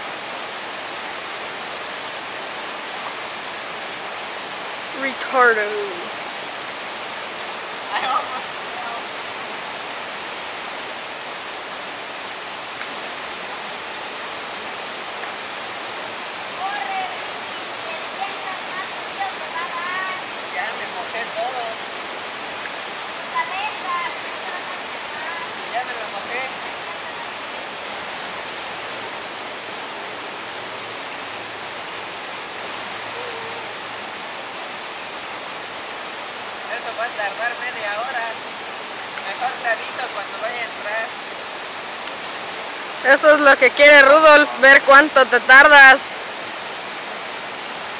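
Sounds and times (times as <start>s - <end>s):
river water flowing over rocks: 0.0s - 47.9s.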